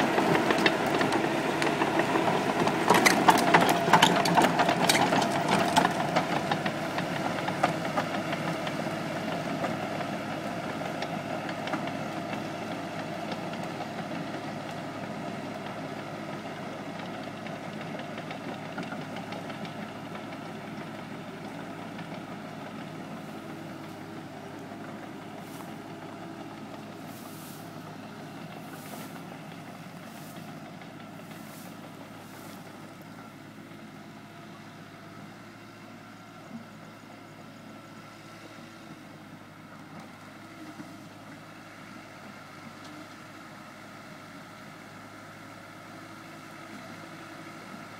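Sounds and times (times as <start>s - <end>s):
bulldozer diesel engine passing: 0.0s - 47.9s.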